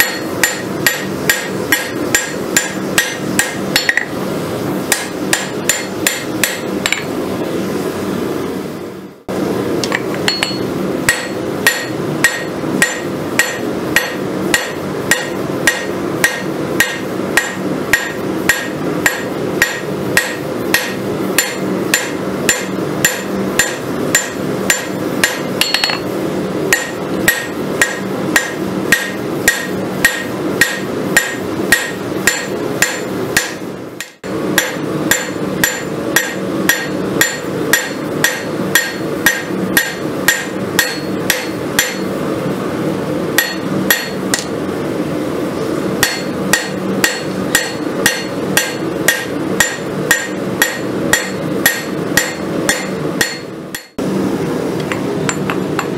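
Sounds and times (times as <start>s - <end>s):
hammer beating steel on anvil: 0.0s - 4.2s, 4.9s - 7.1s, 9.8s - 26.1s, 26.7s - 42.2s, 43.4s - 44.5s, 46.0s - 54.0s.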